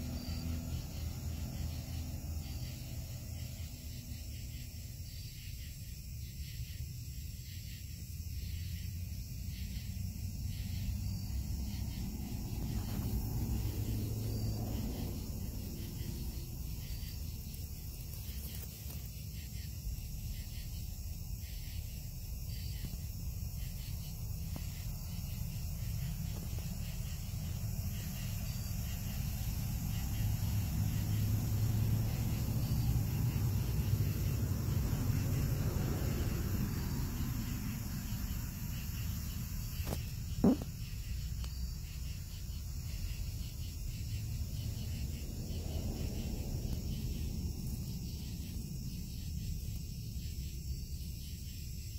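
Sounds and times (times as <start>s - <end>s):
insects chirping: 0.0s - 51.9s.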